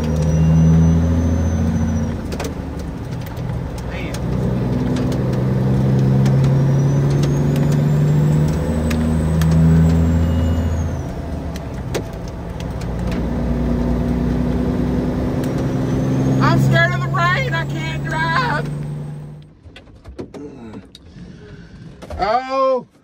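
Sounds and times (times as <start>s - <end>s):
truck diesel engine driving: 0.0s - 19.7s.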